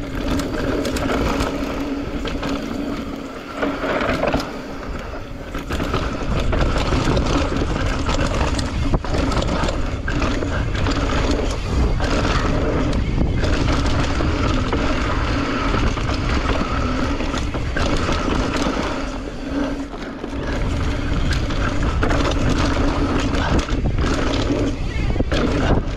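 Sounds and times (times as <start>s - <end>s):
bike rattling over bumps: 0.0s - 25.9s
bike tyres crunching over dirt: 0.0s - 25.9s
freewheel hub buzzing hum: 0.0s - 25.9s
wind on microphone: 0.0s - 25.9s.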